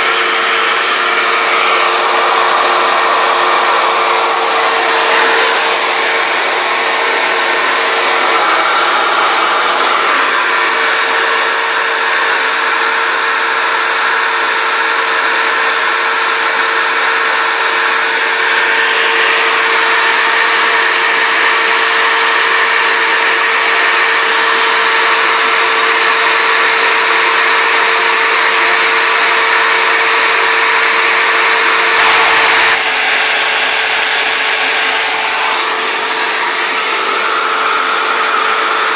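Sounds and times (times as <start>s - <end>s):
router spindle whirring: 0.0s - 38.9s
vacuum dust extraction: 0.0s - 38.9s.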